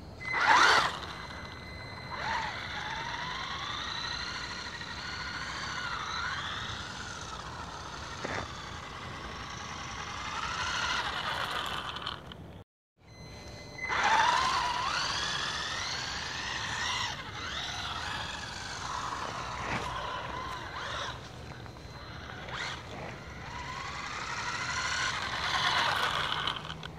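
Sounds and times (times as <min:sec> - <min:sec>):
wheels spinning on ice: 0:00.0 - 0:12.6, 0:13.7 - 0:26.9
electric motor whining: 0:00.0 - 0:26.9.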